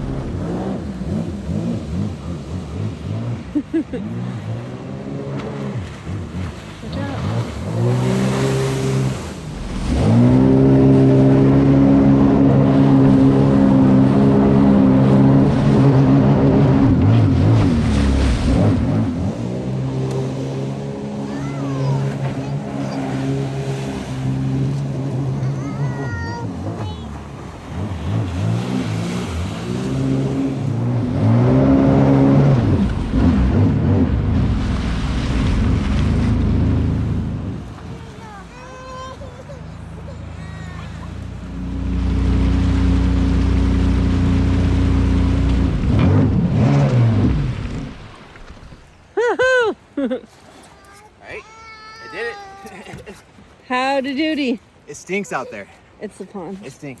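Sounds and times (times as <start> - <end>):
jet ski engine revving: 0.0 - 48.9
water rushing: 0.0 - 57.0.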